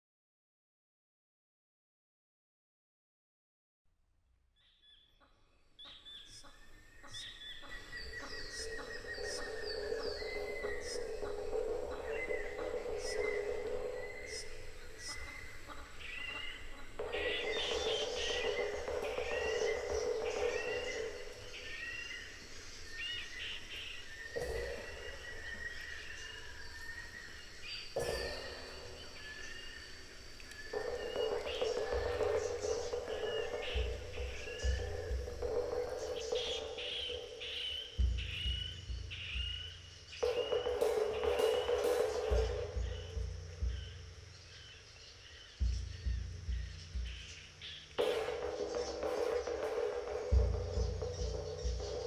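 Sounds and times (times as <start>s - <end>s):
birds chirping: 4.5s - 52.0s
faint background hiss: 4.6s - 52.0s.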